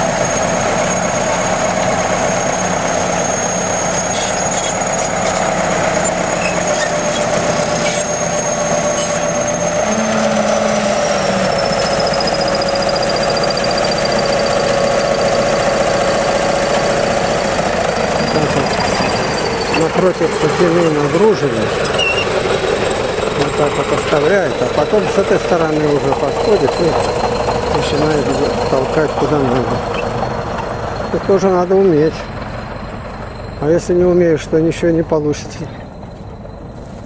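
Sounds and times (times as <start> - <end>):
bulldozer diesel engine: 0.0 - 37.0.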